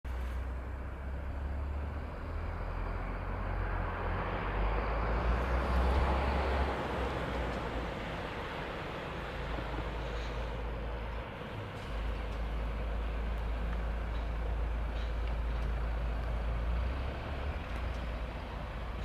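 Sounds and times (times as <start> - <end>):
bus engine and tyre noise: 0.0 - 19.0.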